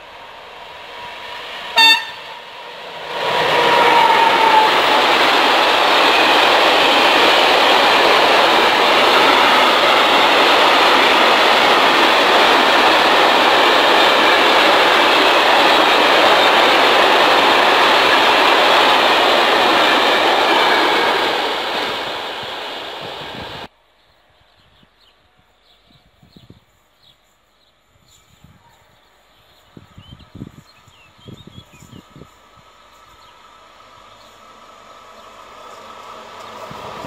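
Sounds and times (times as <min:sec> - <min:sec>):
freight train rolling past: 0:00.0 - 0:23.7, 0:29.7 - 0:37.0.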